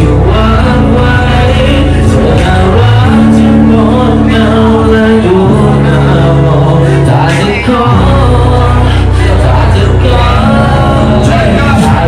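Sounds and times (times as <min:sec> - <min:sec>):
backing track with deep bass: 0:00.0 - 0:12.0
man performing into microphone: 0:00.0 - 0:12.0.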